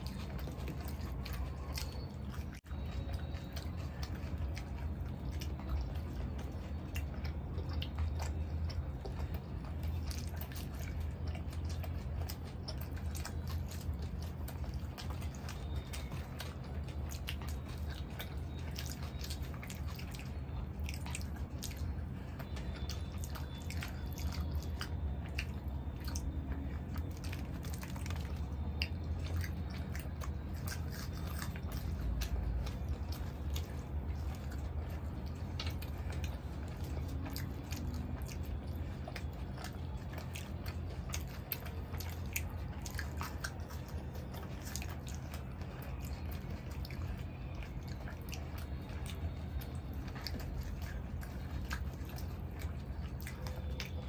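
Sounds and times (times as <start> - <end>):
chewing and mouth smacks: 0.0 - 54.0.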